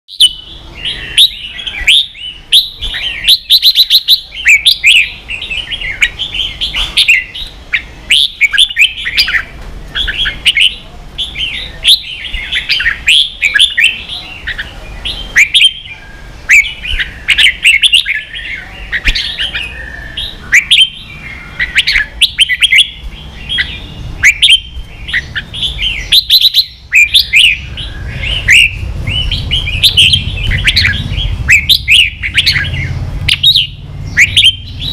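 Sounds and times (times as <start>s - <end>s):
bird singing fast chattering song: 0.1s - 34.9s.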